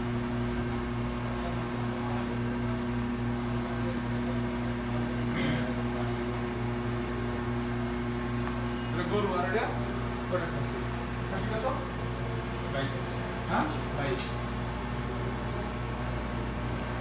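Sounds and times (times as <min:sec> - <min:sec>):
electrical machine hum: 0:00.0 - 0:17.0.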